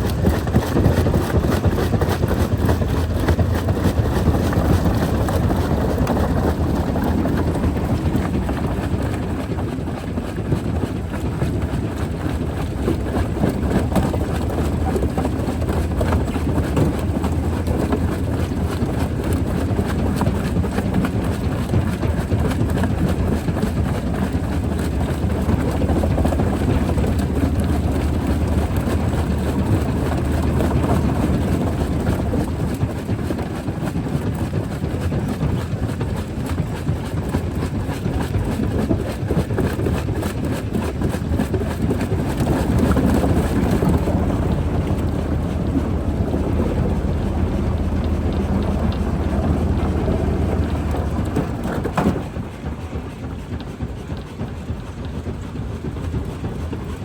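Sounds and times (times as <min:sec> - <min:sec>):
low engine drone: 0:00.0 - 0:21.7, 0:22.3 - 0:33.2, 0:40.9 - 0:57.0
rock crusher running: 0:00.0 - 0:57.0.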